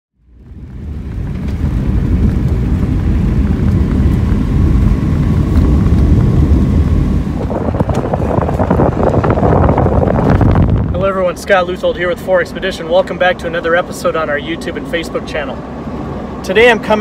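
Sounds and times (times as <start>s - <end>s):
gravel ticks: 0.2s - 15.5s
tyre and road rumble: 0.2s - 17.0s
wind rush: 0.2s - 17.0s.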